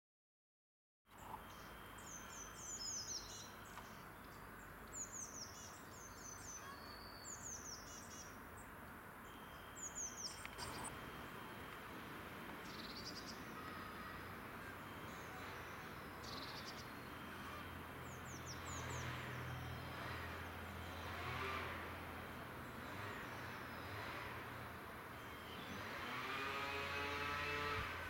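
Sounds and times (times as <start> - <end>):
songbirds singing: 1.1 - 28.0.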